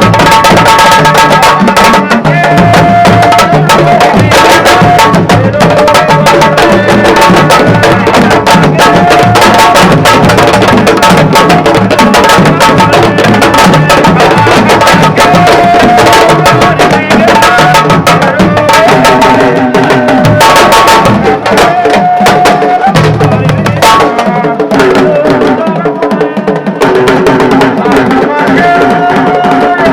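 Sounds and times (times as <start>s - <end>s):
fast dense drumming: 0.0s - 29.9s.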